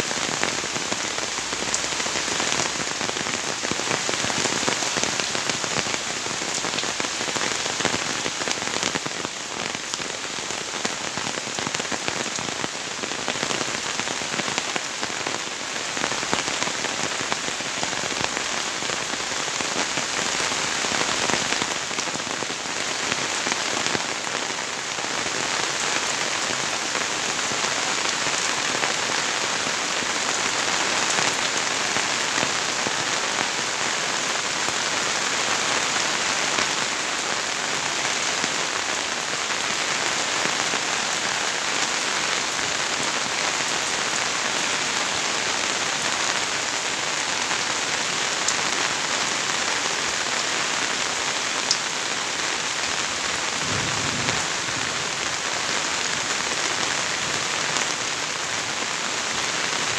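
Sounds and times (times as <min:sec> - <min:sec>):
heavy rain on foliage: 0:00.0 - 0:59.9.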